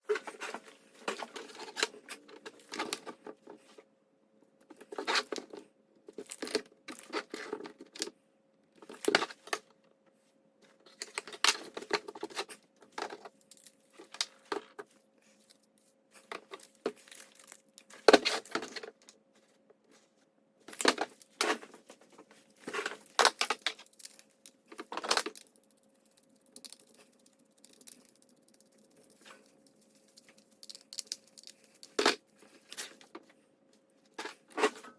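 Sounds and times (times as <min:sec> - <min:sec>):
rustling and crinkling of handling: 0:00.0 - 0:03.9, 0:04.5 - 0:34.9
faint steady hum: 0:00.1 - 0:34.9.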